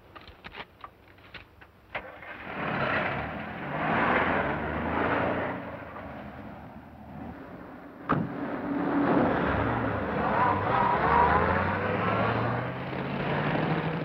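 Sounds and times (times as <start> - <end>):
car driving past: 2.0 - 14.0.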